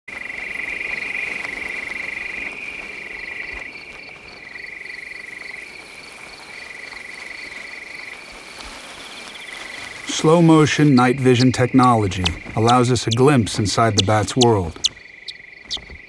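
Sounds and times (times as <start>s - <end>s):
frogs or insects trilling: 0.1s - 16.0s.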